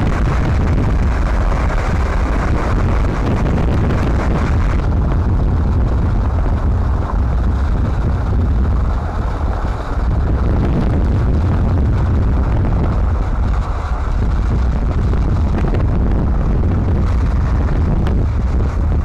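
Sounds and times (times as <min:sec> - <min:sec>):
vehicle road rumble: 0:00.0 - 0:19.0
wind buffeting microphone: 0:00.0 - 0:19.0.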